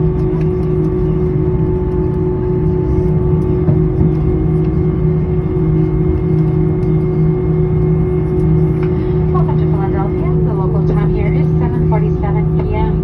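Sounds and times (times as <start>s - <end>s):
constant low hum: 0.0s - 13.0s
jet engine cabin rumble: 0.0s - 13.0s.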